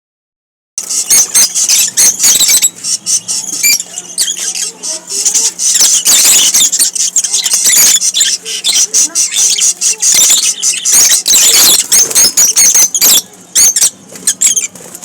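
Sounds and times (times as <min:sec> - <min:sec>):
birds chattering and chirping: 0:00.8 - 0:15.0
faint hum: 0:00.8 - 0:15.0.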